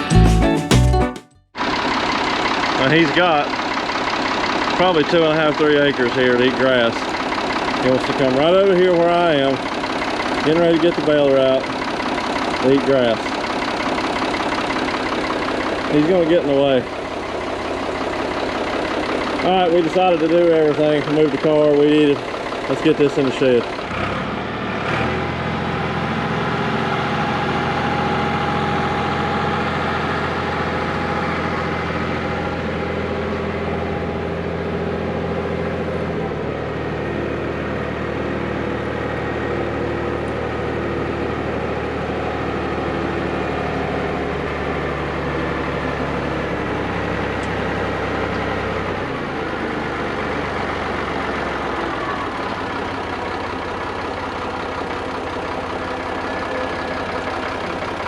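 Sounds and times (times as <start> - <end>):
engine running at low speed: 1.6 - 58.0.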